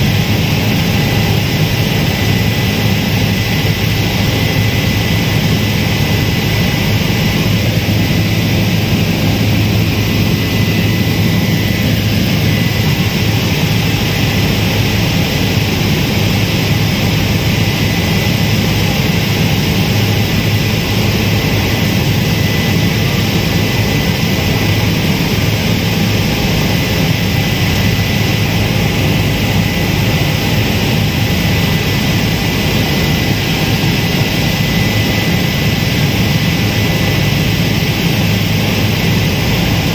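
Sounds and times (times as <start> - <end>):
helicopter rotor drone: 0.0 - 39.9
high whine: 0.0 - 39.9.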